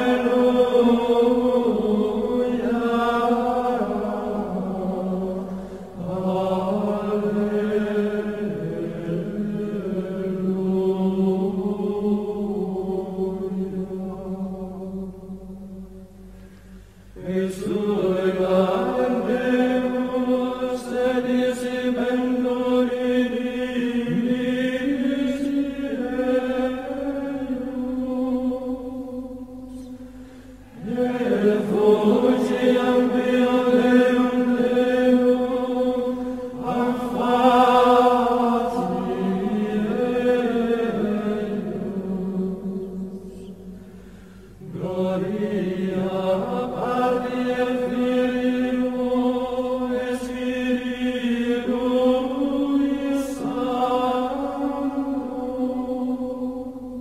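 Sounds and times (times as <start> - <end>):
slow chant-like vocal music: 0.0 - 57.0.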